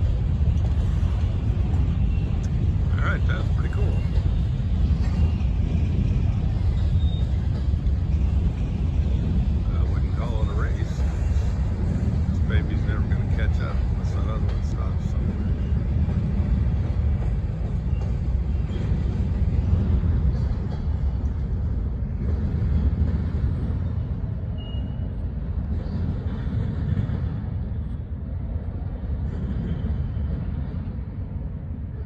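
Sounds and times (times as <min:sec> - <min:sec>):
freight train rumbling on rails: 0:00.0 - 0:32.0.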